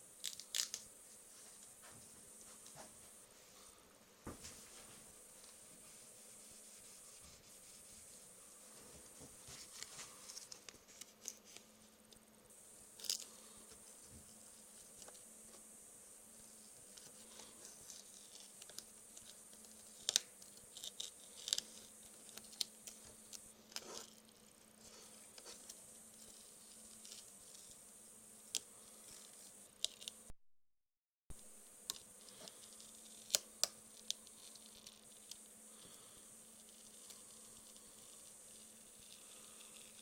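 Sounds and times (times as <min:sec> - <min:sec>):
machine hum and hiss: 0:00.0 - 0:30.3, 0:31.3 - 0:40.0.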